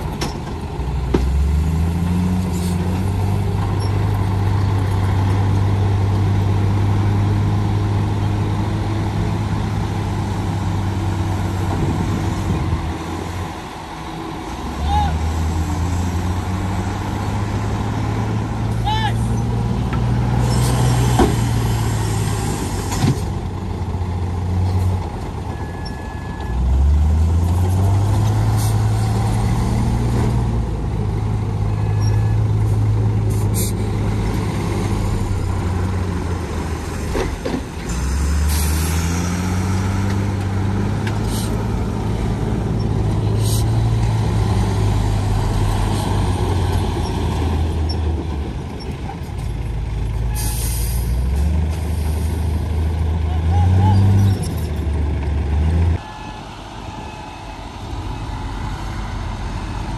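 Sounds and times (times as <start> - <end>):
heavy diesel engines revving: 0.0 - 59.9.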